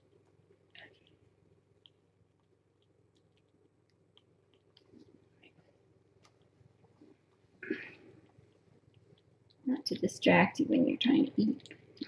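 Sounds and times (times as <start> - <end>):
kittens chewing wet food: 0.0 - 12.0.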